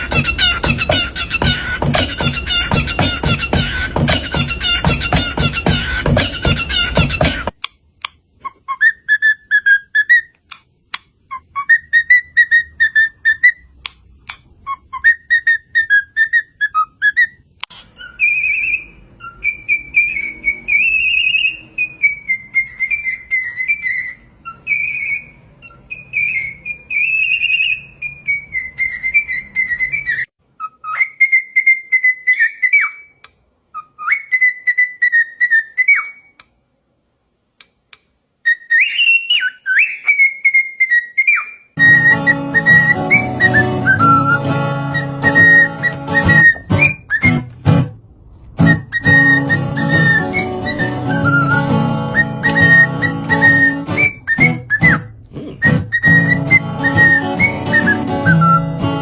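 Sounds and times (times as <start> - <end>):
parrot whistling a tune: 0.0 - 7.6, 8.4 - 10.3, 11.3 - 13.7, 14.6 - 36.4, 38.4 - 47.6, 48.6 - 58.8.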